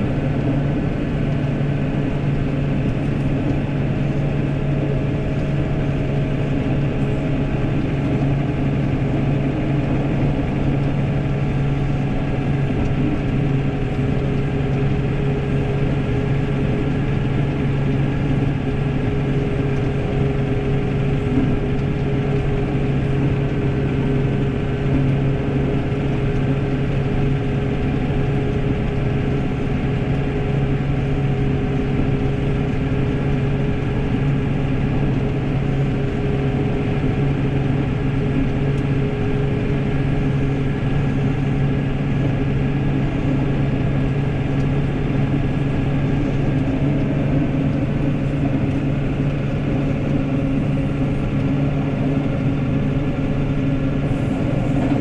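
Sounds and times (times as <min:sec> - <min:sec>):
snowplow blade pushing snow: 0:00.0 - 0:55.0
tractor diesel engine running: 0:00.0 - 0:55.0.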